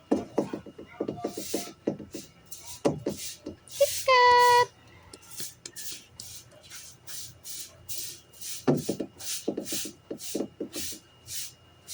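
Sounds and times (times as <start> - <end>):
rhythmic rasping strokes: 1.2 - 11.9.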